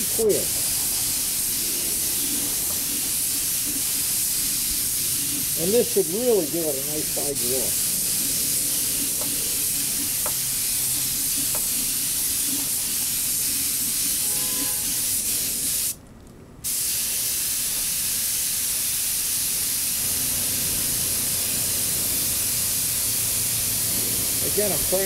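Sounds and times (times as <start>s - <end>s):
spray gun hissing: 0.0s - 16.0s, 16.6s - 25.0s.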